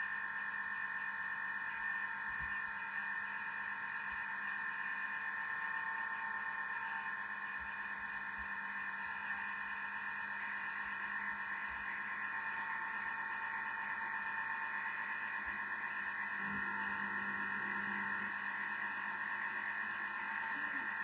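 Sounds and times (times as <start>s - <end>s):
kitchen mixer motor whirring: 0.0s - 21.0s.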